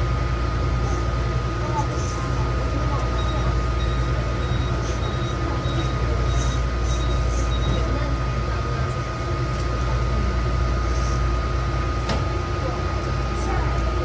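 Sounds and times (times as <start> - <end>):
metro train rumble: 0.0 - 14.0.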